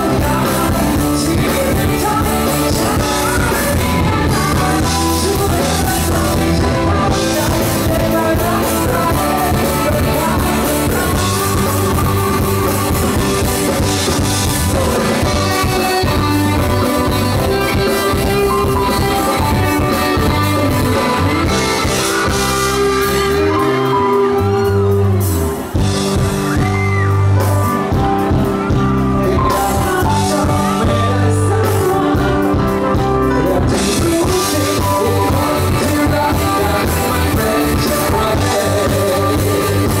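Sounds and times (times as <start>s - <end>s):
bass guitar: 0.0s - 40.0s
drums: 0.0s - 40.0s
guitar: 0.0s - 40.0s
person singing lead vocals: 0.0s - 40.0s.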